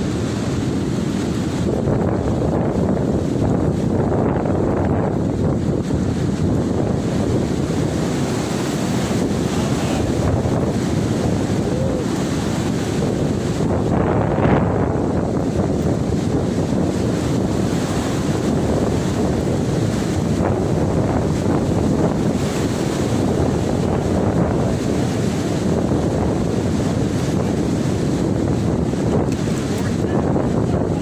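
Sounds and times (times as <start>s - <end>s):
wind gusts buffeting a tent: 0.0s - 31.0s
wind rumble on microphone: 0.0s - 31.0s.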